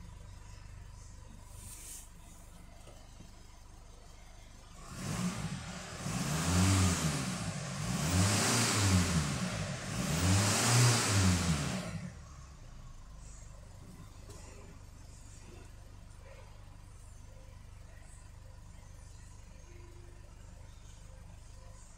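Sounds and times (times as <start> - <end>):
diesel engine idling and revving: 0.0 - 21.9.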